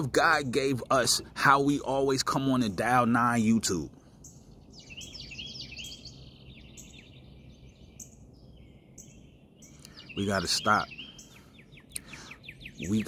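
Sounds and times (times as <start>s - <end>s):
faint low background noise: 0.0s - 13.0s
small birds chirping: 0.0s - 13.0s.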